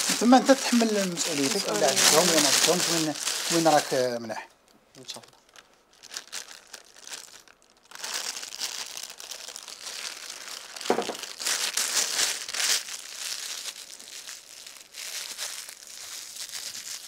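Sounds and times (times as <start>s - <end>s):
plastic bag crinkling: 0.0s - 4.2s, 5.0s - 17.0s.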